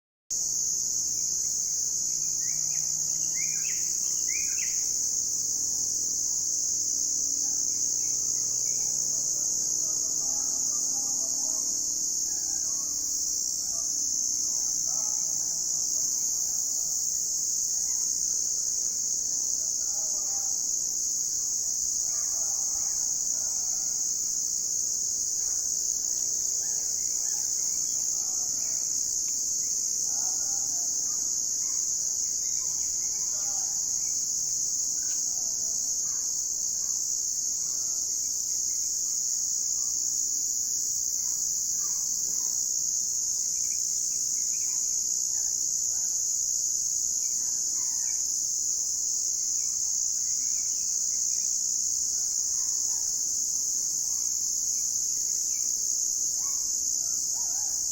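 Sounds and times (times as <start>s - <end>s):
crickets chirping: 0.3s - 57.9s.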